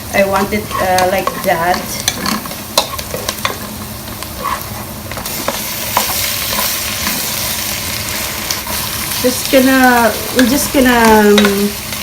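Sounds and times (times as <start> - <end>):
prawns sizzling in hot oil: 0.0 - 12.0.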